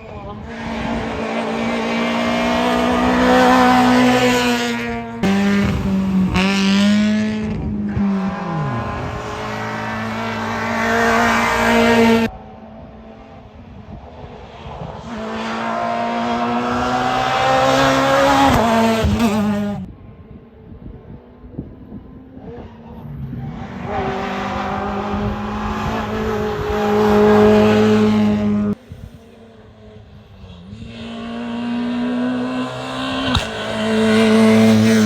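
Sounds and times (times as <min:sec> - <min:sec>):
race car engines revving high: 0:00.0 - 0:19.9, 0:21.5 - 0:35.0.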